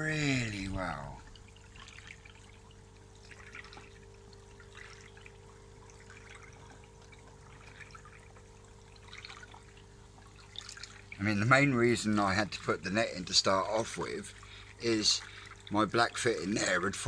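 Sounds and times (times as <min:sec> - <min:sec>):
steady low hum: 0:00.0 - 0:17.0
water trickling and splashing: 0:00.0 - 0:17.0.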